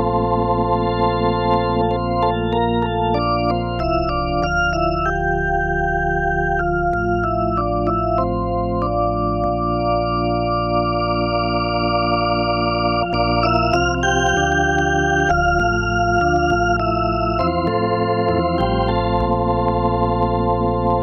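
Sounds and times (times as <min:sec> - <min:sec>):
organ chords: 0:00.0 - 0:21.0.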